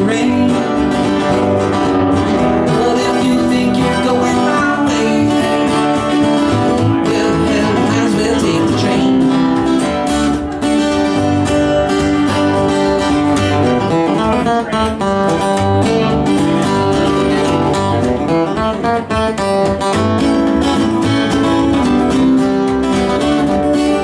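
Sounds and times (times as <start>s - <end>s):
bass line: 0.0s - 24.0s
strummed acoustic guitar: 0.0s - 24.0s.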